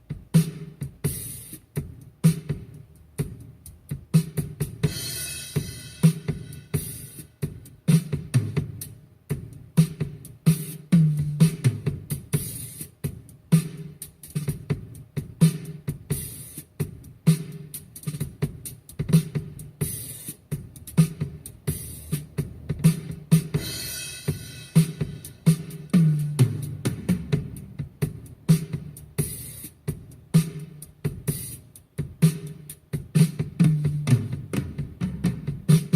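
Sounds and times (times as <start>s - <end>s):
sharp drum strokes: 4.2s - 35.9s.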